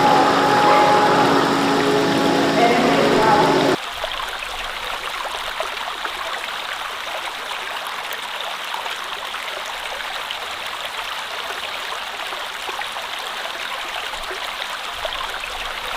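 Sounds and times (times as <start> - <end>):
stream water running: 0.0 - 15.9.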